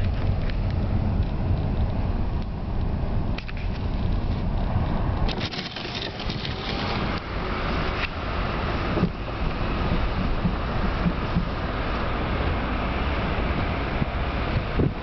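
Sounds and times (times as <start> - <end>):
road rumble: 0.0 - 15.0
wind noise: 0.0 - 15.0.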